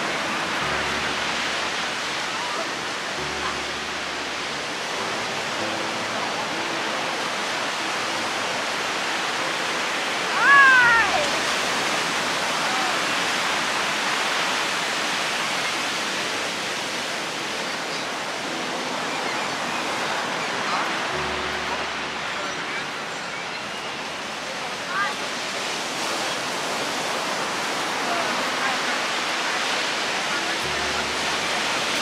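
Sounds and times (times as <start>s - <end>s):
surf washing up a beach: 0.0s - 32.0s.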